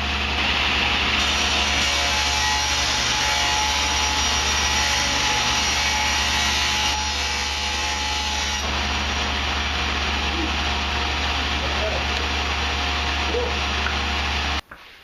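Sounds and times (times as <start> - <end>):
power saw cutting wood: 0.0 - 14.6.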